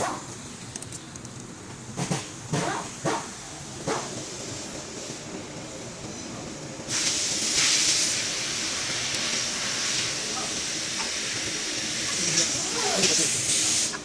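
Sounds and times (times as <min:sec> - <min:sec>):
loud steady hiss: 0:00.0 - 0:14.0.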